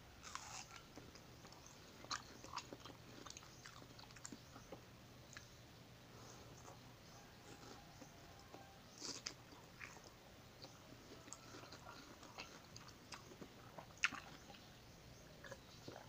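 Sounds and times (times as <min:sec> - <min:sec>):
person chewing: 0:00.2 - 0:05.5, 0:07.4 - 0:14.7, 0:15.4 - 0:16.0.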